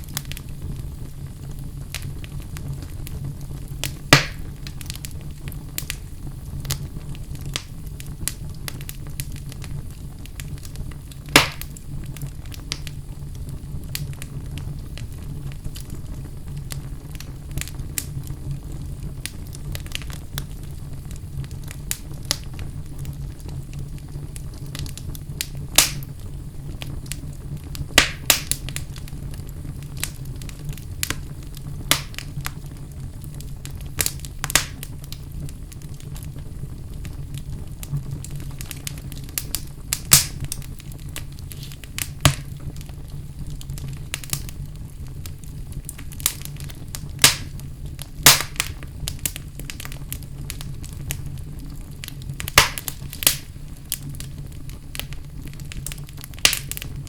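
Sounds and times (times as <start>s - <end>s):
low rumble of fire: 0.0s - 57.0s
wood fire crackling and popping: 0.0s - 57.0s.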